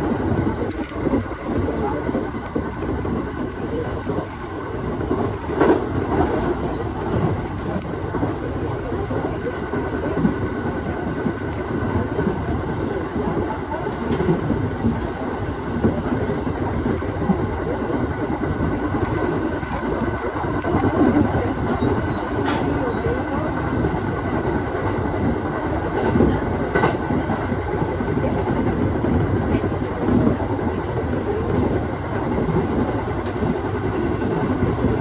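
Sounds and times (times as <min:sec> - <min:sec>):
train running rumble: 0:00.0 - 0:35.0.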